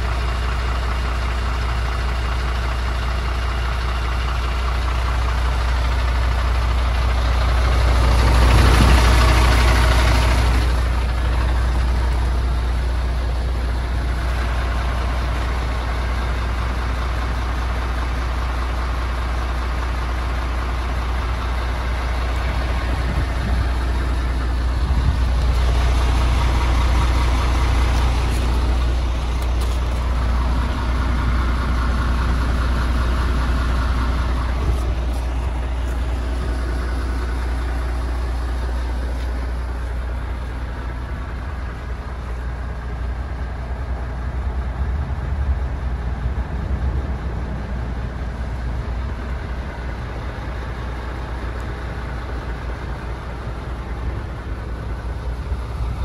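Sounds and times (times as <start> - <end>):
diesel truck idling: 0.0 - 56.0.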